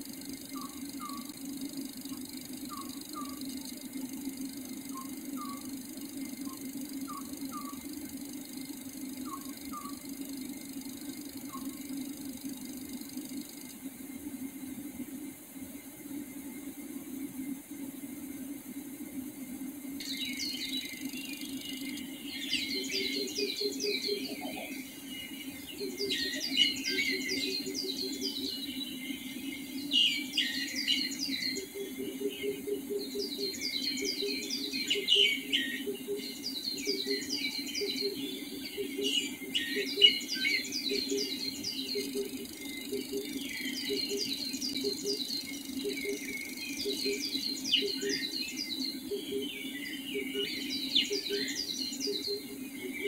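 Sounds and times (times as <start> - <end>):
low rapid pulsing call: 0.0 - 14.0, 20.0 - 49.5
songbirds singing: 0.0 - 14.4, 20.0 - 53.0.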